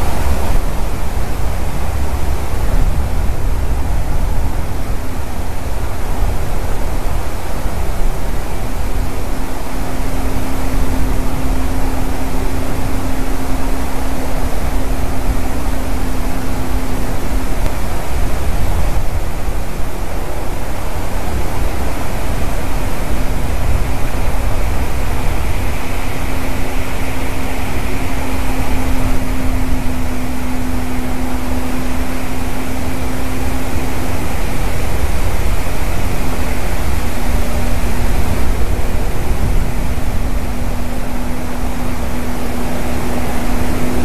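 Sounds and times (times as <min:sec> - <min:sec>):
loud rushing noise: 0:00.0 - 0:44.0
low hum: 0:00.0 - 0:44.0
wind on microphone: 0:00.0 - 0:44.0.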